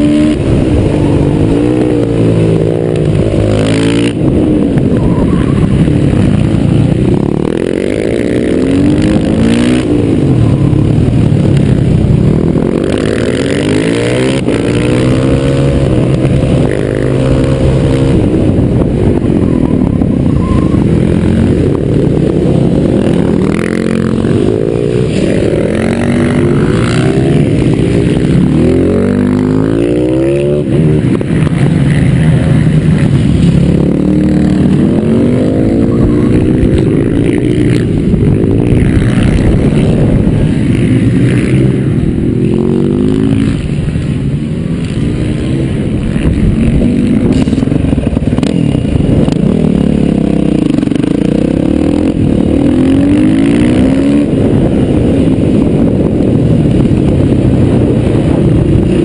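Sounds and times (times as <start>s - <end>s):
motorcycle engine revving hard: 0.0s - 44.4s, 45.0s - 59.0s.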